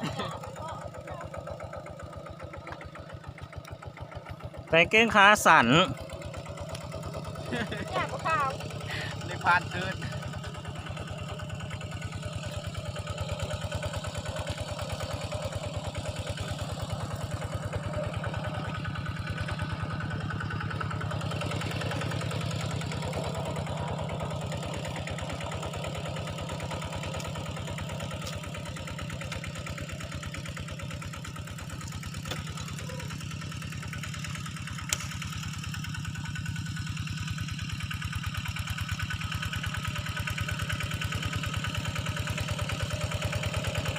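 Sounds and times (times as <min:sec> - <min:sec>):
small engine idling: 0:00.0 - 0:43.9.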